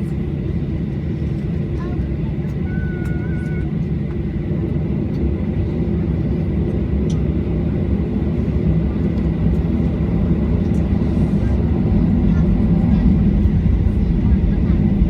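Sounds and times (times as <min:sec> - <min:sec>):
aeroplane engines rumbling: 0:00.0 - 0:15.0.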